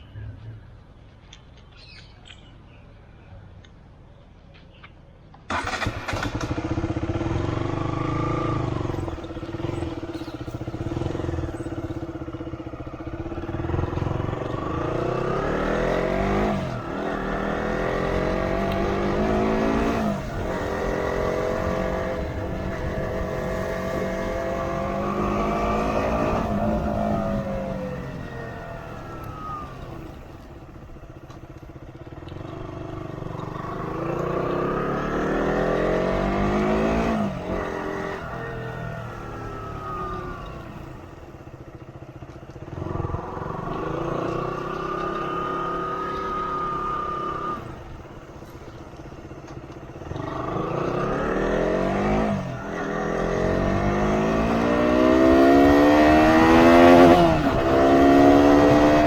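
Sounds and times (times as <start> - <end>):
motorcycle engine accelerating: 5.5 - 59.0.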